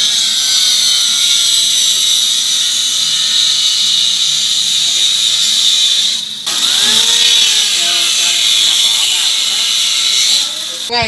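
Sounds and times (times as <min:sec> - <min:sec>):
angle grinder grinding steel: 0:00.0 - 0:11.0.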